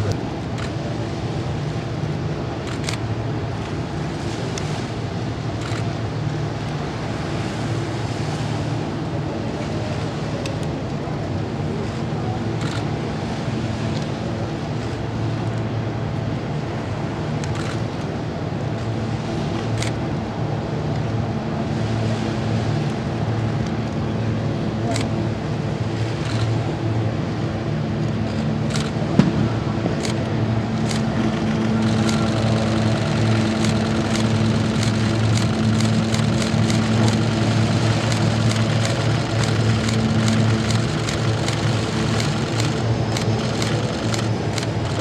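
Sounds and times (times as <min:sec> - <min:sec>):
propeller plane engines humming: 0:00.0 - 0:45.0.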